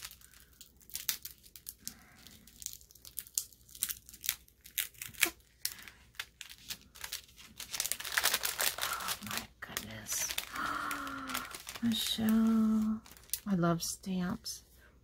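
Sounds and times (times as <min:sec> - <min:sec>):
cellophane crinkling: 0:00.0 - 0:13.9.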